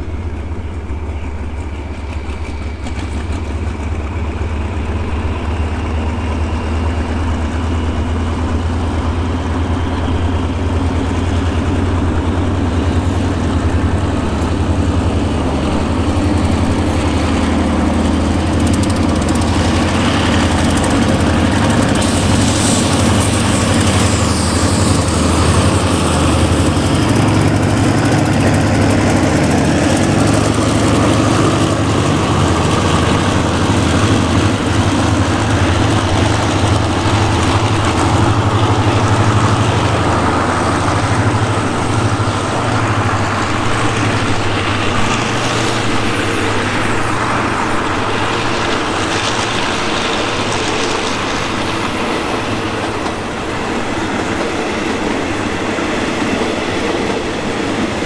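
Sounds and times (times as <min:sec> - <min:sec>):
locomotive engine droning: 0:00.0 - 0:58.0
train carriages rolling by: 0:00.0 - 0:58.0.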